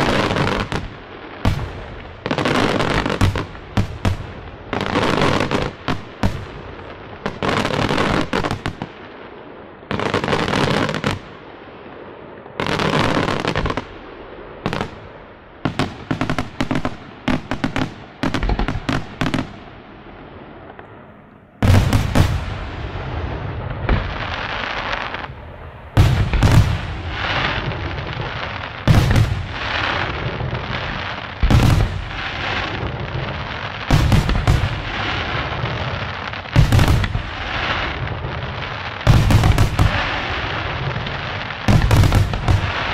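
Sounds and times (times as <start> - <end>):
sharp firework cracks: 0.0 - 9.3, 9.9 - 42.9
deep firework booms: 0.0 - 42.9.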